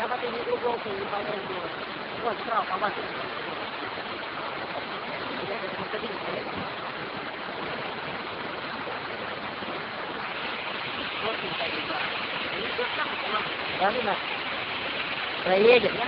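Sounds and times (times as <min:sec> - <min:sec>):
floodwater rushing in a river: 0:00.0 - 0:16.0.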